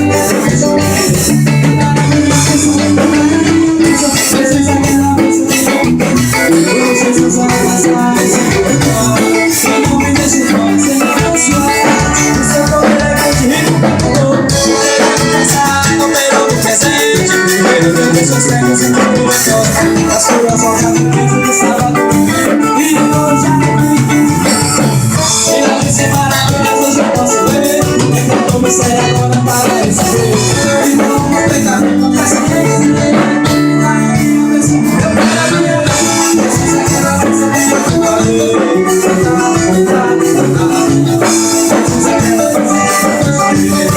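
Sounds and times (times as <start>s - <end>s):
bass guitar: 0.0s - 43.9s
drum kit beat: 0.0s - 43.9s
live band playing: 0.0s - 43.9s.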